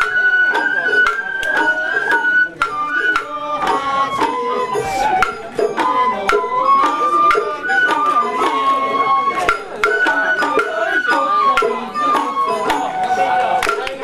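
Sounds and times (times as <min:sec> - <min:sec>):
bamboo flute melody: 0:00.0 - 0:14.0.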